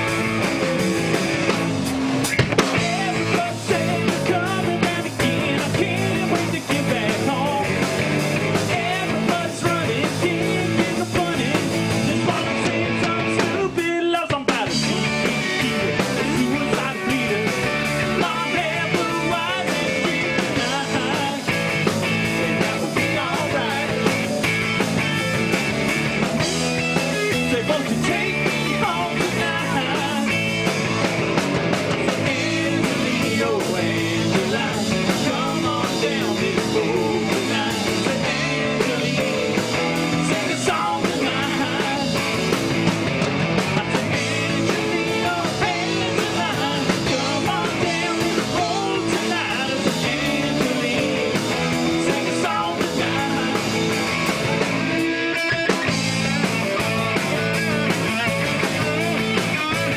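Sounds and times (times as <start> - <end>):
rock band playing: 0.0 - 59.9
man singing: 2.7 - 24.4, 26.6 - 31.0, 32.0 - 42.8, 43.6 - 59.9.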